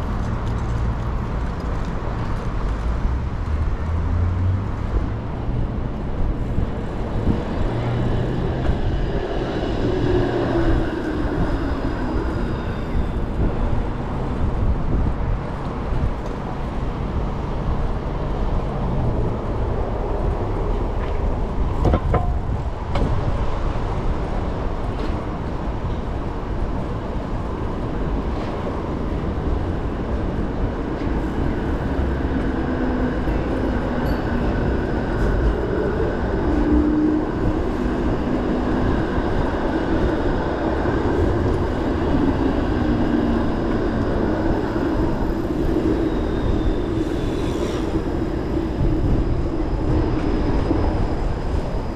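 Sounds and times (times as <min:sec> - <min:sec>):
bicycle wind and rolling noise: 0:00.0 - 0:51.9.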